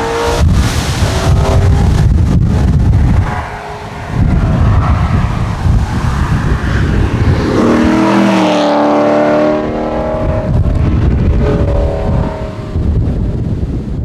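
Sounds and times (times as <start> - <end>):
rally car engine accelerating: 0.0 - 13.6
wind buffeting microphone: 0.0 - 14.0.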